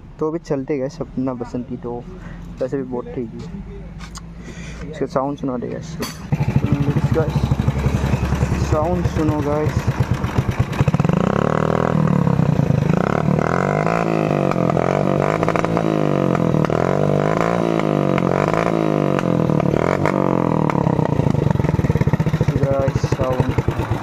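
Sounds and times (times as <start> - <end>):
motorcycle engine running: 2.2 - 24.0.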